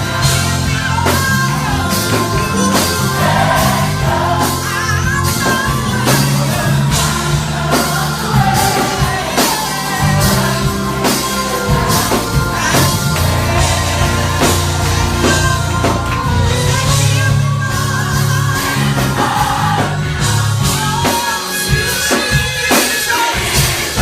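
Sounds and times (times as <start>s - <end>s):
drum beat: 0.0s - 16.9s, 20.6s - 24.0s
bass: 0.0s - 22.8s
gospel choir singing: 0.0s - 24.0s.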